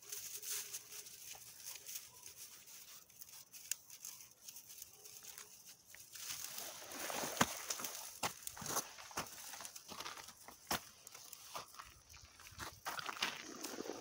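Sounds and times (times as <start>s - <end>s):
rustling of twigs and grass: 0.0s - 14.0s.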